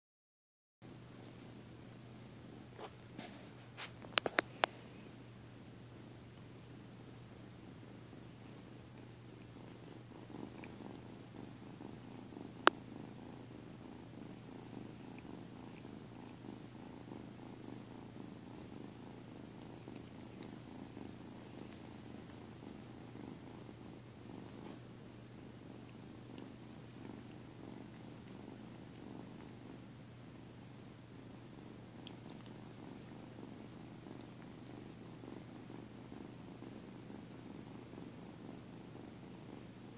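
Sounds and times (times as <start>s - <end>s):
cat purring: 0.9s - 39.9s.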